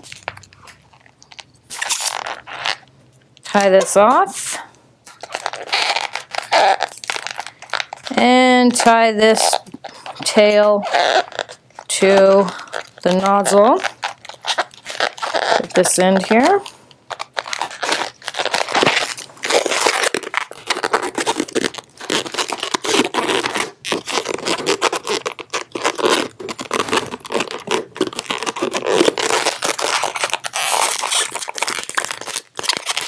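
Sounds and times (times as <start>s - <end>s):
balloons rubbing and squeaking: 1.6s - 2.9s, 3.5s - 33.0s.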